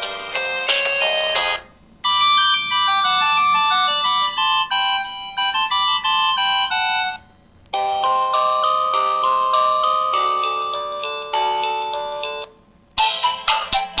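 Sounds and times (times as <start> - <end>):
phone ringtone melody: 0.0 - 14.0.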